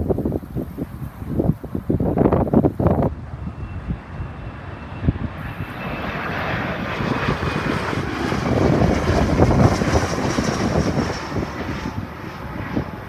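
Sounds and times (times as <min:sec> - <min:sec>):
jet engines roaring: 0:00.0 - 0:13.0
wind buffeting microphone: 0:00.0 - 0:13.0
high engine whine: 0:01.9 - 0:13.0.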